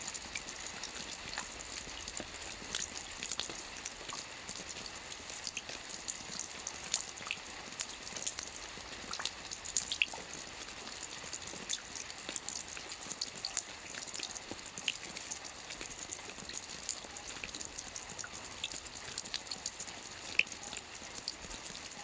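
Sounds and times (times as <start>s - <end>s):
raindrops on hard surface: 0.0s - 22.0s
steady rain: 0.0s - 22.0s.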